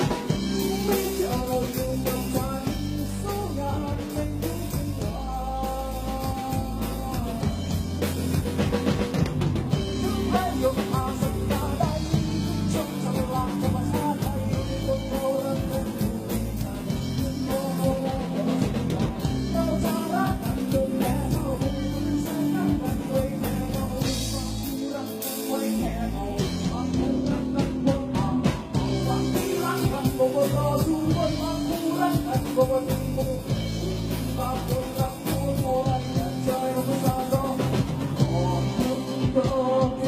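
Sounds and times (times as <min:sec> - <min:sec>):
person singing: 0:00.0 - 0:08.8, 0:09.6 - 0:40.0
bass: 0:00.0 - 0:40.0
drums keeping a steady beat: 0:00.0 - 0:40.0
guitar: 0:00.0 - 0:40.0.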